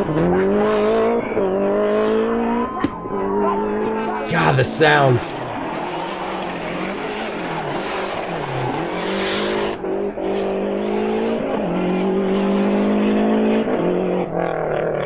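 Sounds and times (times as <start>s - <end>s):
rally car engine at speed: 0.0s - 15.0s.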